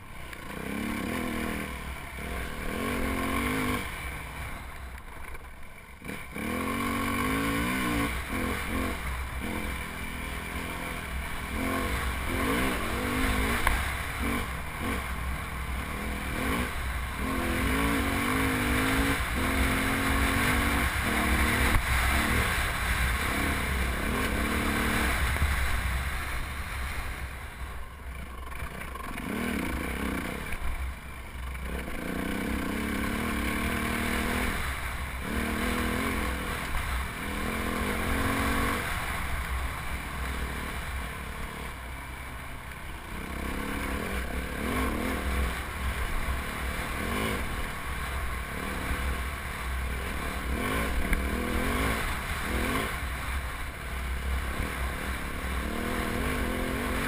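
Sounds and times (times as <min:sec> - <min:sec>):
dirt bike engine revving: 0:00.0 - 0:05.4, 0:06.0 - 0:27.4, 0:28.2 - 0:42.0, 0:42.9 - 0:57.0.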